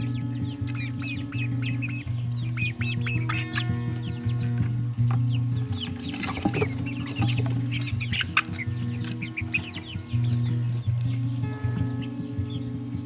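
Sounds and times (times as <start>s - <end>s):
chicks peeping and chirping: 0.0s - 13.0s
low steady hum: 0.0s - 13.0s.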